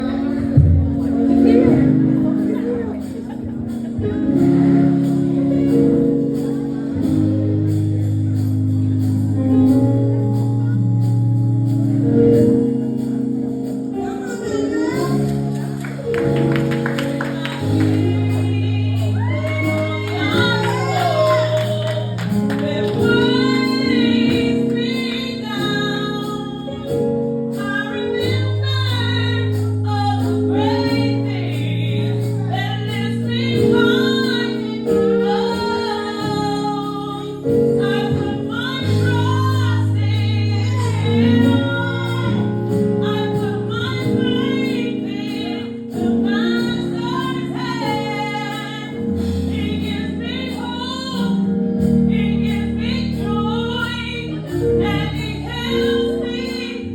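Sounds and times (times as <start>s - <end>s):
women singing gospel: 0.0s - 7.7s, 13.9s - 56.9s
bass chords: 0.0s - 56.9s
keyboard chords: 0.0s - 56.9s.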